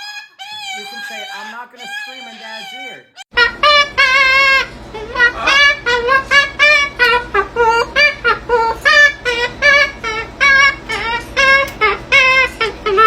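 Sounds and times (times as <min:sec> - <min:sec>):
parrot high-pitched notes: 0:00.0 - 0:13.0.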